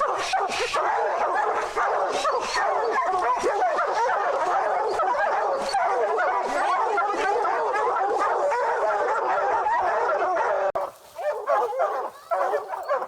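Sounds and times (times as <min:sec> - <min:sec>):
hounds baying and barking: 0:00.0 - 0:13.0.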